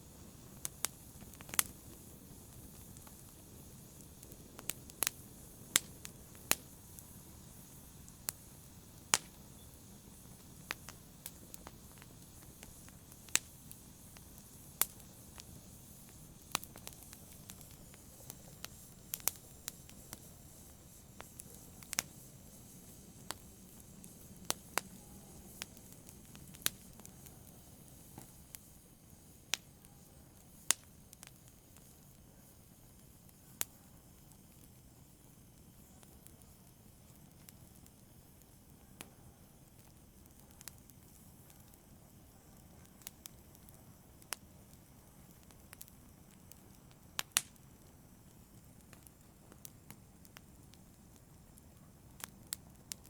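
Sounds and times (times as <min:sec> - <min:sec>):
faint steady hiss: 0:00.0 - 0:53.0
fire crackling and popping: 0:00.0 - 0:53.0.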